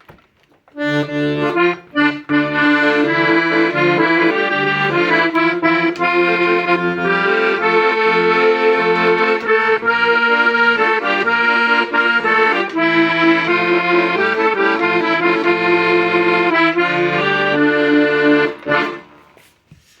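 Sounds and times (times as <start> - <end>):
accordion melody: 0.7 - 19.6.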